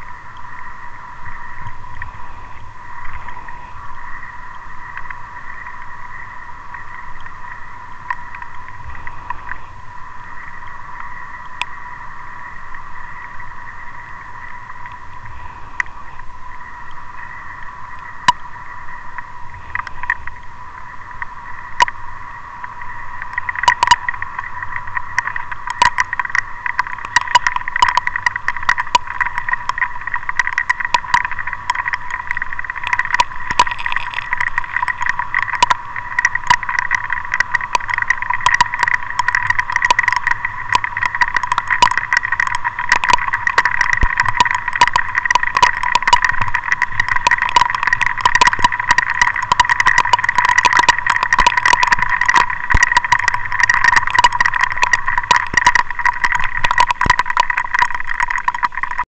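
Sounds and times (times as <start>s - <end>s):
rain hitting a vehicle: 0.0s - 12.0s, 12.6s - 59.0s.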